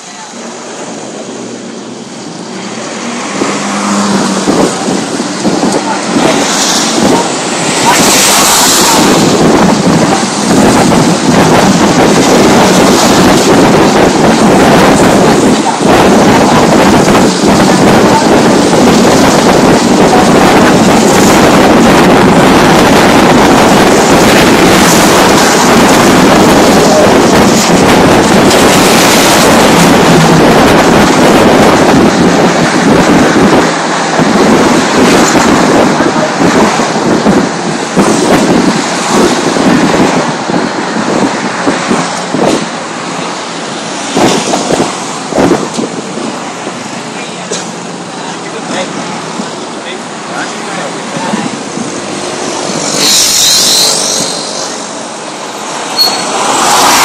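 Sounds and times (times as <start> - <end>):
wind buffeting microphone: 0.0 - 53.4
road and engine noise: 0.0 - 57.0.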